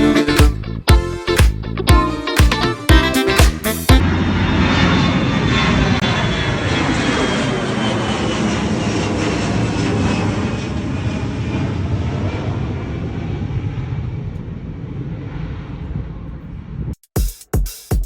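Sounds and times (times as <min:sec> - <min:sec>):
airplane engine: 0:00.0 - 0:17.0.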